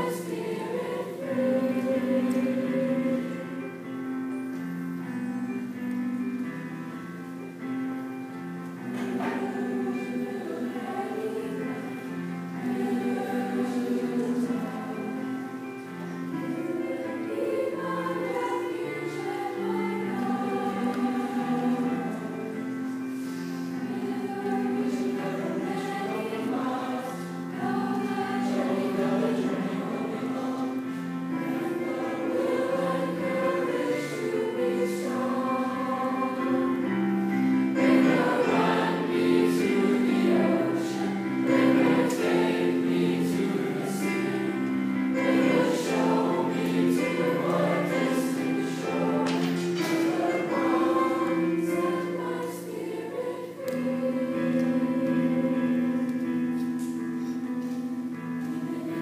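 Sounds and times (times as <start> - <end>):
choir singing in parts: 0.0 - 59.0.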